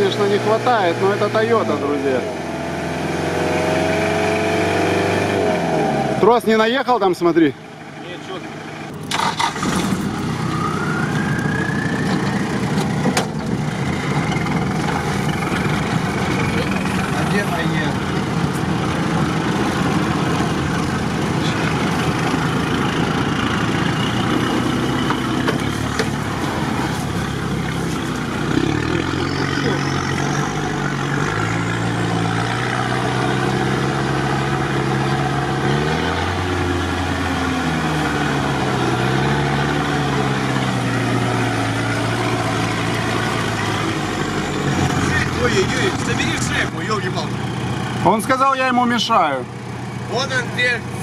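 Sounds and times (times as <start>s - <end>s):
off-road vehicle engine in mud: 0.0s - 51.0s.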